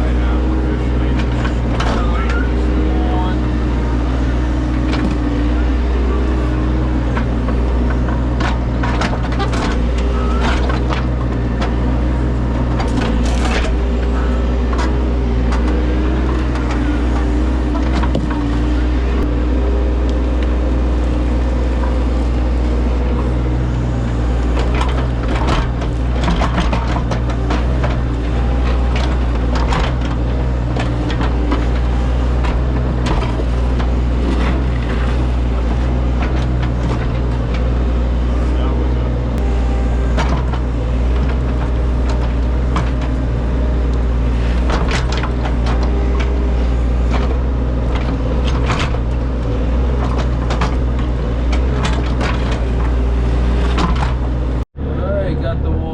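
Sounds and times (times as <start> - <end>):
equipment engine humming: 0.0 - 55.9.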